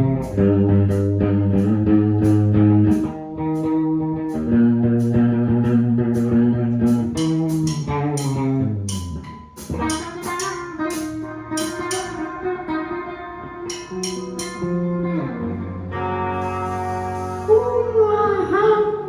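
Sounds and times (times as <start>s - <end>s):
bass notes: 0.0s - 19.0s
guitar playing: 0.0s - 19.0s.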